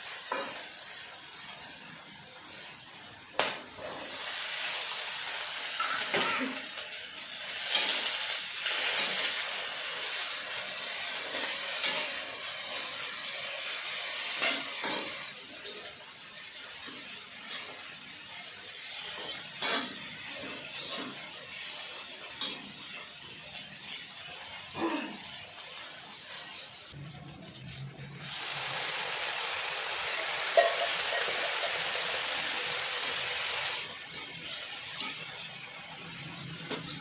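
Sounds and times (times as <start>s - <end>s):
food frying in oil: 0.0s - 37.0s.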